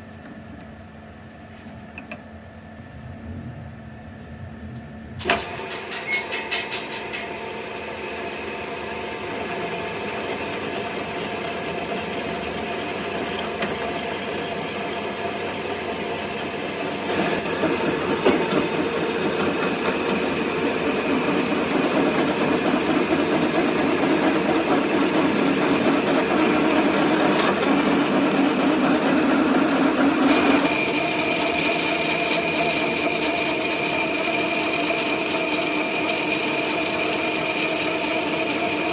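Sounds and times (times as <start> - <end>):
workshop machine whirring rattle: 4.4 - 38.9.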